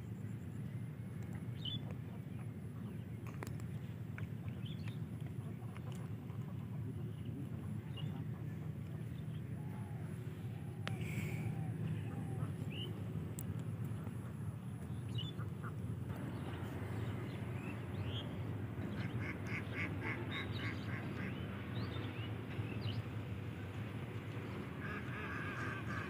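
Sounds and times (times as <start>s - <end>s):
low rumble: 2.4s - 24.8s
birds chirping: 4.4s - 26.0s.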